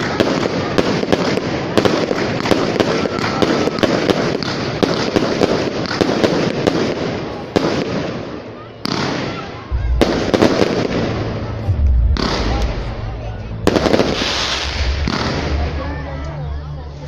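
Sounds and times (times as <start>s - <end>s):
fireworks bangs: 0.0s - 16.0s
fireworks crackling: 0.0s - 16.4s.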